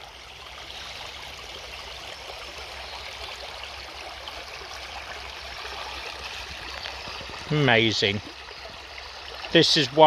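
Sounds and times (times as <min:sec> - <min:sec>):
stream flowing over rocks: 0:00.0 - 0:10.0.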